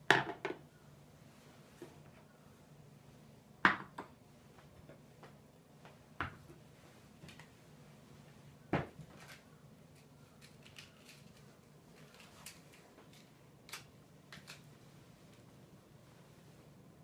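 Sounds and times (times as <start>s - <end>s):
faint low room hum: 0.0s - 17.0s.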